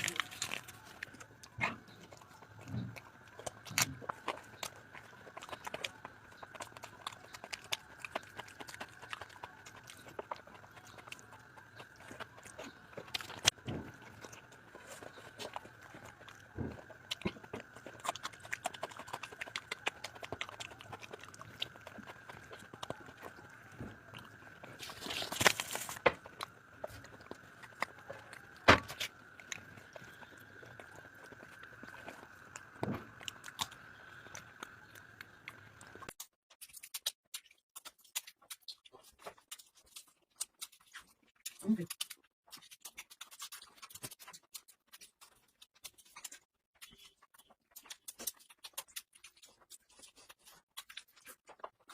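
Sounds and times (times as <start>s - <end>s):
chewing and mouth smacking: 0.0s - 51.9s.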